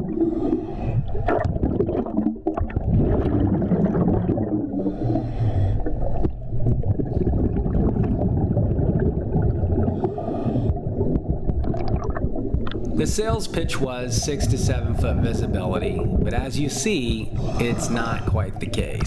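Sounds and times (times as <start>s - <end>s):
exhaled bubbles gurgling underwater: 0.0s - 19.0s.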